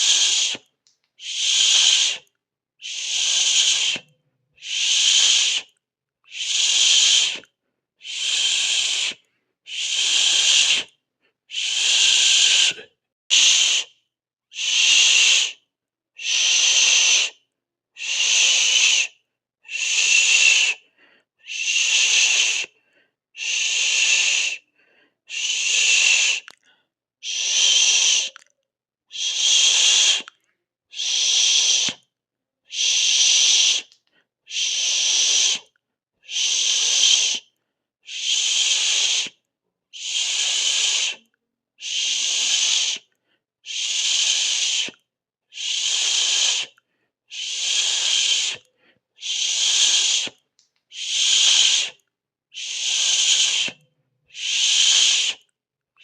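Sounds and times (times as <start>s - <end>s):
person hissing: 0.0s - 10.9s, 11.5s - 13.9s, 14.5s - 15.6s, 16.2s - 17.4s, 18.0s - 19.1s, 19.7s - 20.8s, 21.4s - 22.8s, 23.4s - 24.7s, 25.3s - 26.6s, 27.2s - 28.4s, 29.1s - 32.1s, 32.7s - 37.5s, 38.1s - 39.4s, 40.0s - 55.5s.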